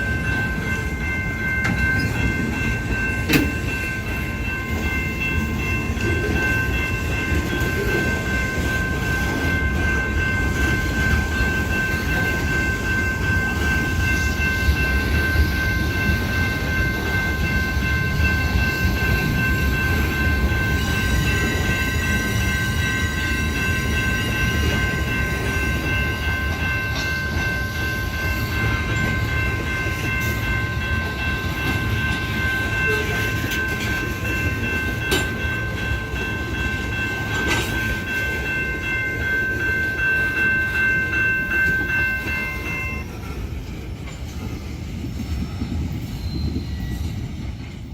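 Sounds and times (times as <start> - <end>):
freight train rumbling: 0.0 - 47.9.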